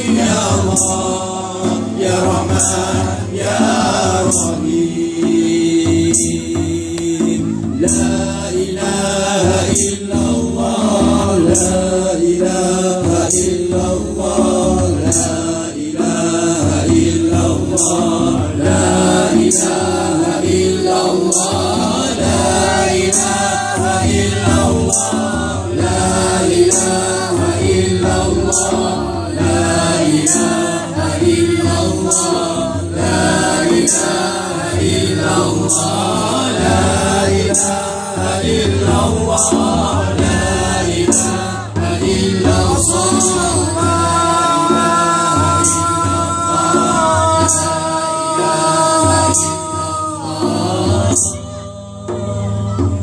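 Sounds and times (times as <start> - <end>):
hand drums: 0.0 - 53.0
men singing in chorus: 0.0 - 53.0.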